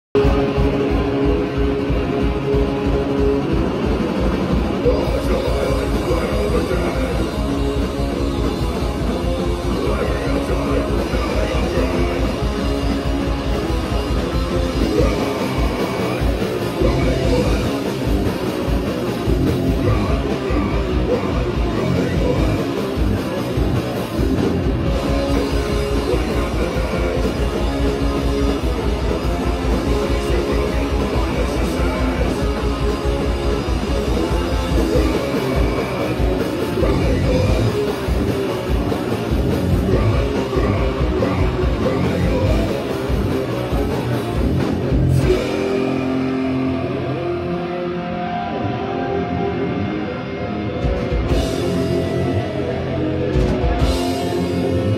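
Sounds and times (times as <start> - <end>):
bass guitar: 0.0 - 54.9
distorted electric guitars: 0.0 - 54.9
drum kit: 0.1 - 54.9.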